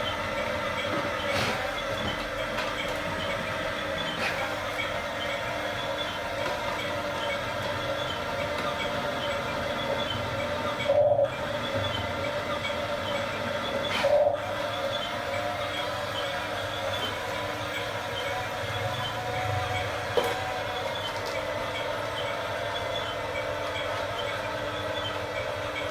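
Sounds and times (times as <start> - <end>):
electric motors whirring: 0.0 - 25.9.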